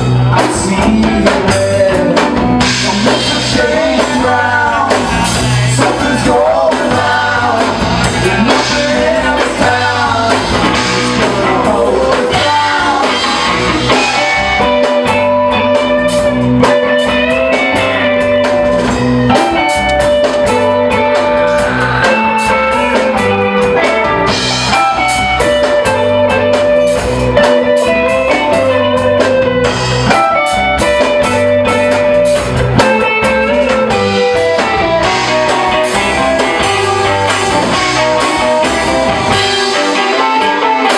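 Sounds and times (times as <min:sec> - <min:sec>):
bass line: 0:00.0 - 0:40.9
drum kit: 0:00.0 - 0:40.9
electric guitar: 0:00.0 - 0:40.9
live rock band playing: 0:00.0 - 0:40.9.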